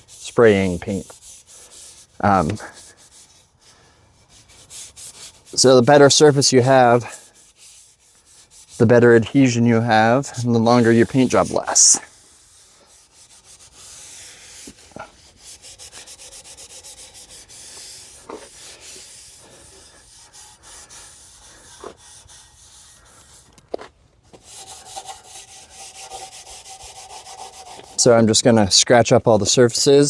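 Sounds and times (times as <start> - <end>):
sandpaper rubbing strokes: 0.0 - 23.6, 24.3 - 28.2.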